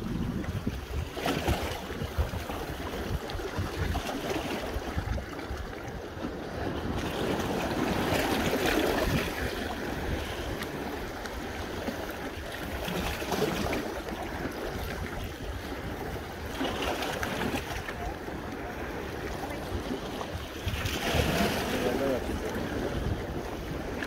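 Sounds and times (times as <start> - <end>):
small waves washing against rocks: 0.0 - 24.0
wind buffeting microphone: 0.0 - 24.0.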